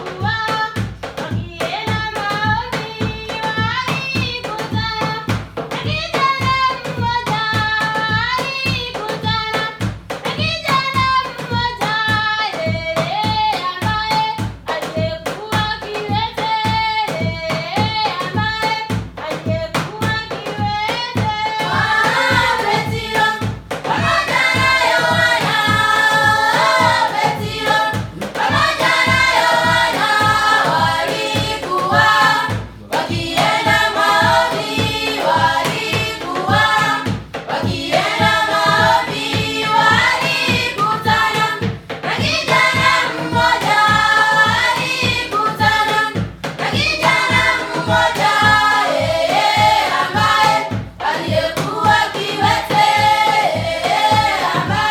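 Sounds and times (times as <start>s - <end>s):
chorus singing over a beat: 0.0s - 54.9s.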